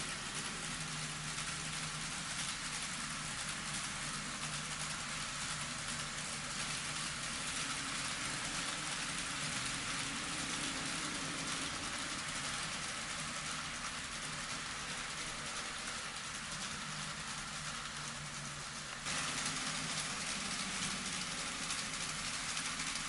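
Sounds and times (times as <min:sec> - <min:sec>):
faint motor hum: 0:00.0 - 0:23.0
model train wheels on rails: 0:00.0 - 0:23.0.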